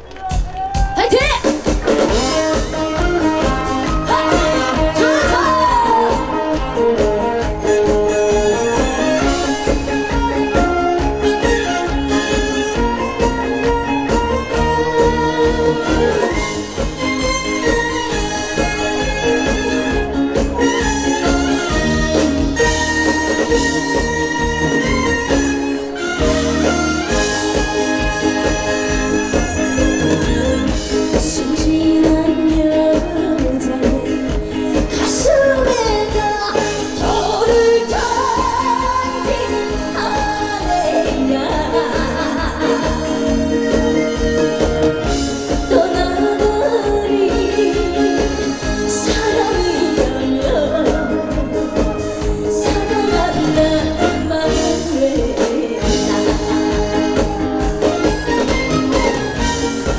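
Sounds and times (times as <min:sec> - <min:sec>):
live band with strings: 0:00.0 - 0:59.9
woman singing: 0:00.8 - 0:59.9.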